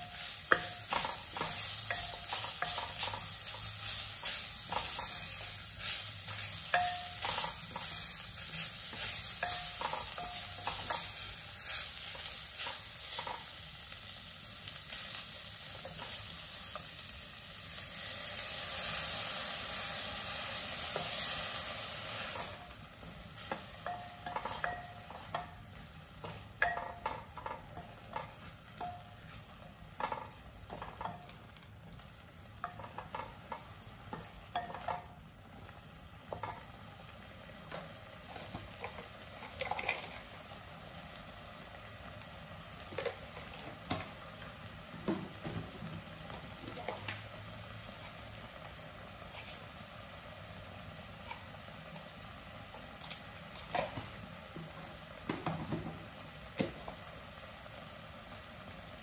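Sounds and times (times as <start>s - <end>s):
steady sizzling: 0.0s - 59.0s.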